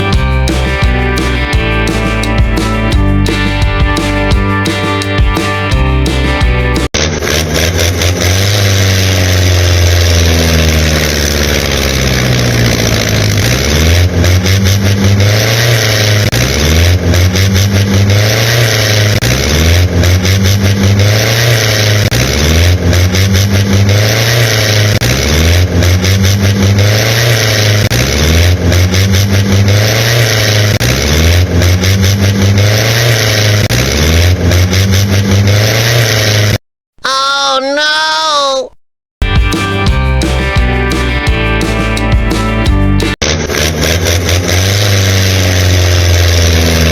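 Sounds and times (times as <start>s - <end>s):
engine revving: 0.0s - 36.6s, 39.5s - 46.9s.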